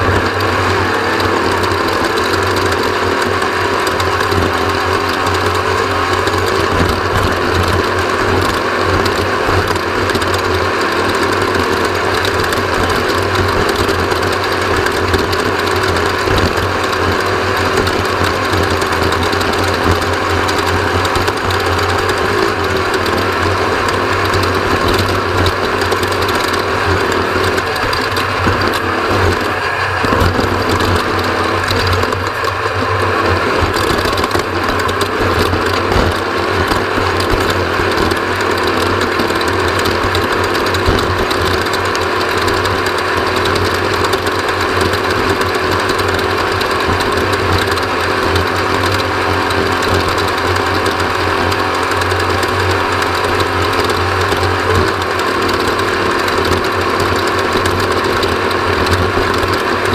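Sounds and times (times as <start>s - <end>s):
mechanical clatter and rattle: 0.0s - 59.9s
race vehicle engine running hard: 0.0s - 59.9s.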